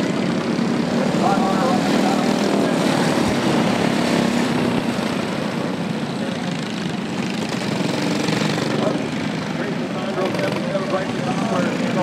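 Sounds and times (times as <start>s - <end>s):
go-kart engines buzzing: 0.0s - 12.0s.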